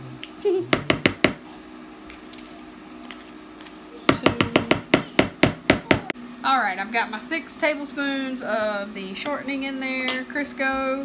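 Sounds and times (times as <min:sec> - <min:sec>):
food dehydrator humming: 0:00.0 - 0:11.0.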